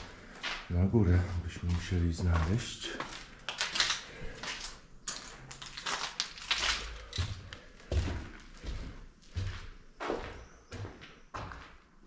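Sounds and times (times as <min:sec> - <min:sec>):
footsteps crunching on rubble: 0:00.0 - 0:12.0.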